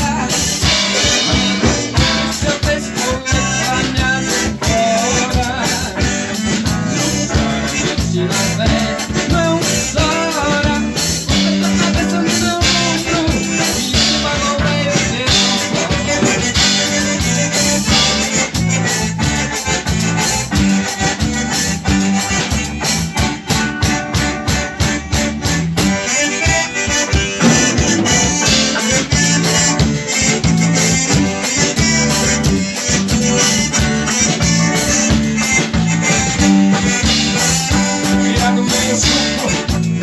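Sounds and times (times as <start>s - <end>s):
accordion playing lead: 0.0s - 40.0s
bass: 0.0s - 40.0s
drums dance beat: 0.0s - 40.0s
guitar: 0.0s - 40.0s.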